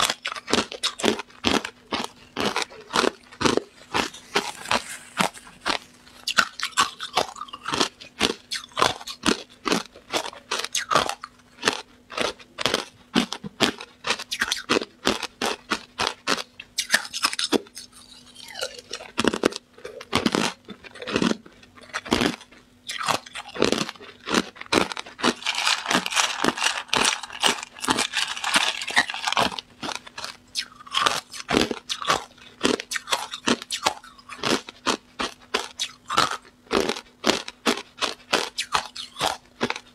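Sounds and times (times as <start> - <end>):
ice cubes crunching in mouth: 0.0 - 39.9.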